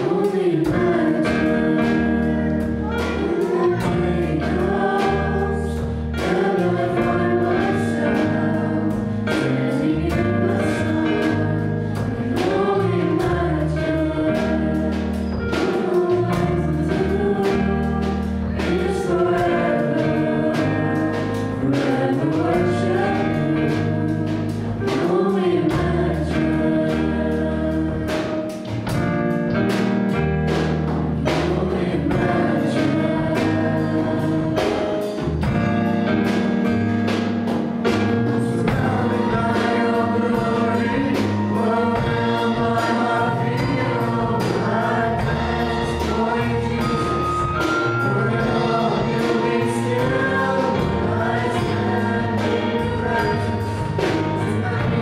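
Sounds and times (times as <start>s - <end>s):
group singing in harmony: 0.0s - 30.4s, 31.0s - 55.0s
live band with keyboard and drums: 0.0s - 55.0s.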